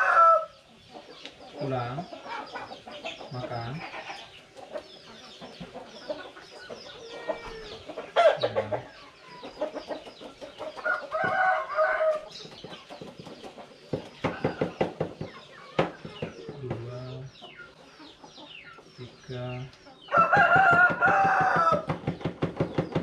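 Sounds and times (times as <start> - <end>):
chicken calls: 0.0 - 23.0
chickens clucking: 0.0 - 23.0.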